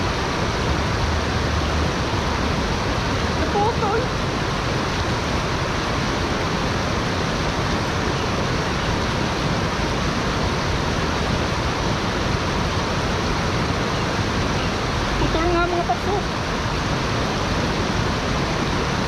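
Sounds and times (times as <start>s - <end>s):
stream rushing over stones: 0.0s - 19.0s.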